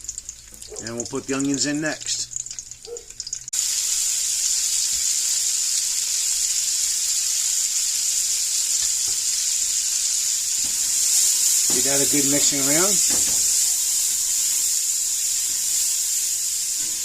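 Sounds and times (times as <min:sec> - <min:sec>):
onions sizzling in a pot: 0:00.0 - 0:17.0.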